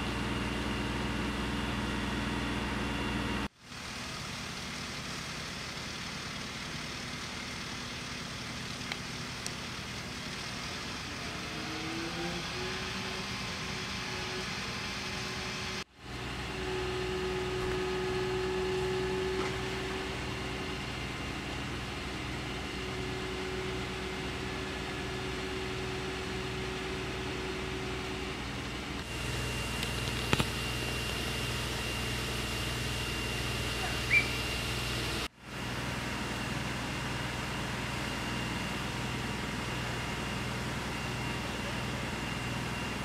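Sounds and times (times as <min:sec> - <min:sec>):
fire engine pump running: 0:00.0 - 0:43.0.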